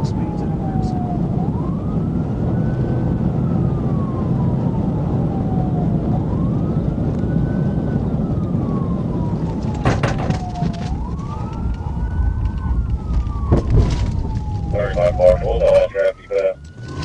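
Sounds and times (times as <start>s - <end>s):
car road and engine rumble: 0.0s - 17.0s
police siren wailing: 0.0s - 17.0s.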